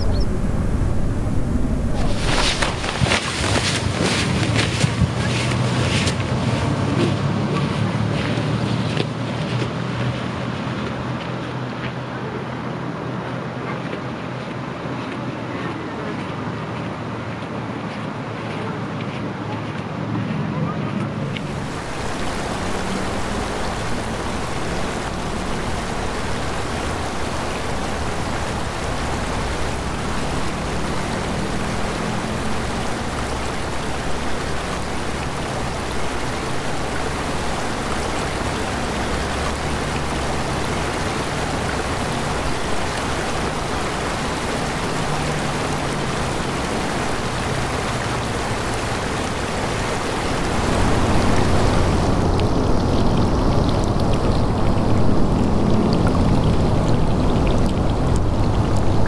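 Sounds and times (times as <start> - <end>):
stream tumbling over rocks: 0.0 - 20.4, 21.0 - 59.0.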